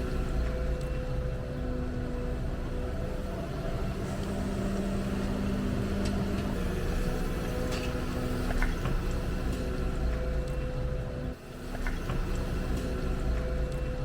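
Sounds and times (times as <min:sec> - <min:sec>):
excavator engine and hydraulics hum: 0:00.0 - 0:14.0.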